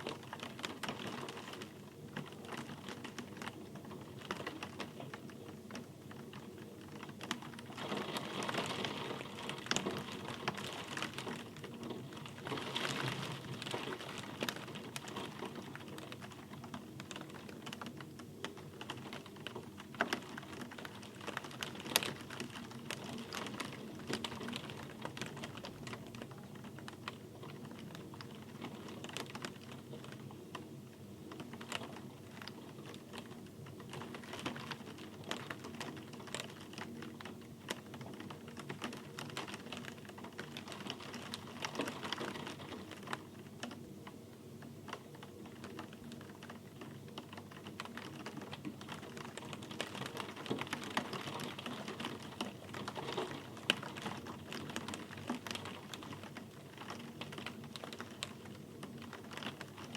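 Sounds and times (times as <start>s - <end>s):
raindrops tapping on hard surface: 0.0s - 30.7s, 31.3s - 44.2s, 44.9s - 59.9s.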